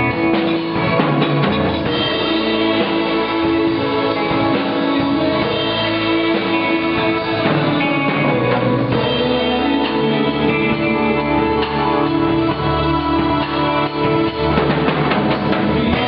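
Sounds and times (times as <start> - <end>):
bass line: 0.0 - 16.0
guitar: 0.0 - 16.0
live band playing: 0.0 - 16.0.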